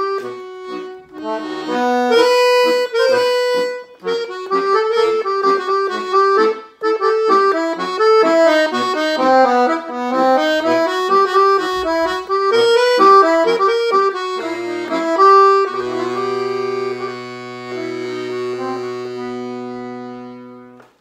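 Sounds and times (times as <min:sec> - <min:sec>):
accordion playing fast melody: 0:00.0 - 0:21.0.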